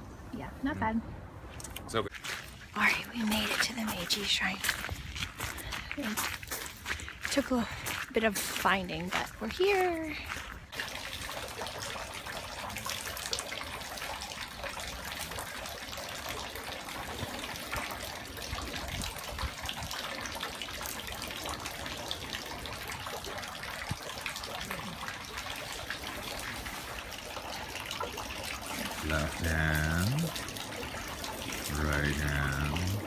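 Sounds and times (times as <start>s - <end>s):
water trickling and splashing: 1.4s - 33.0s.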